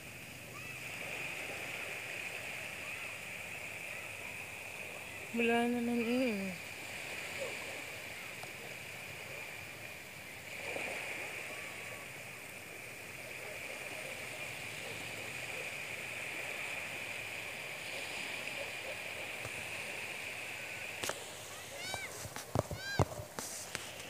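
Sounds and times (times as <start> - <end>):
even hiss: 0.0 - 24.0.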